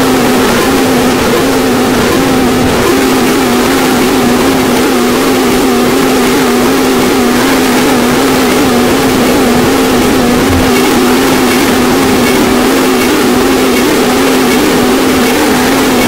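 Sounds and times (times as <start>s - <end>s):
low wobbling drone: 0.0s - 16.0s.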